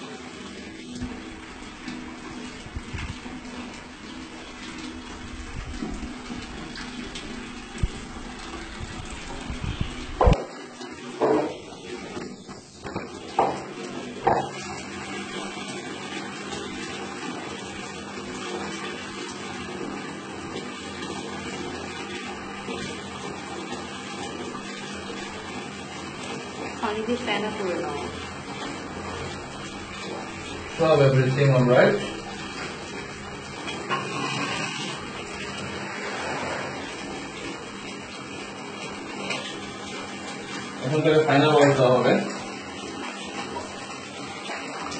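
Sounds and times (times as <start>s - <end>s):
water running: 0.0s - 44.9s.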